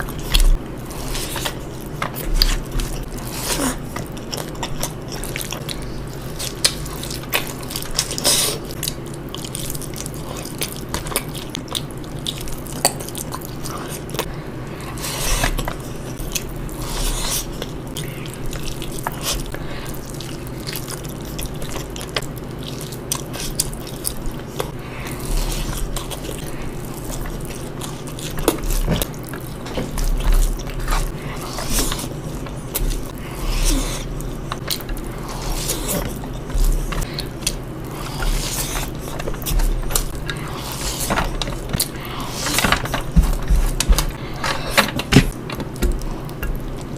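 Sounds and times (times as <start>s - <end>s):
steady low hum: 0.0s - 46.9s
wet chewing: 0.0s - 46.9s.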